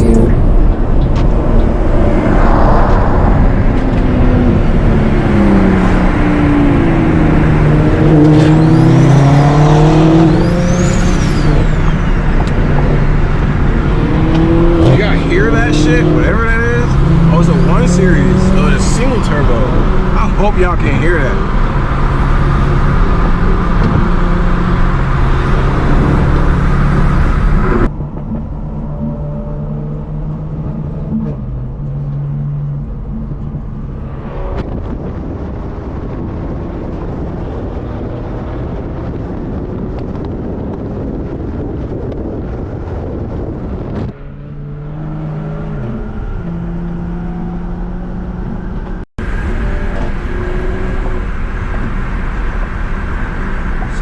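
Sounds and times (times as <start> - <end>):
car engine running: 0.0 - 54.0
car engines idling and driving: 0.0 - 54.0.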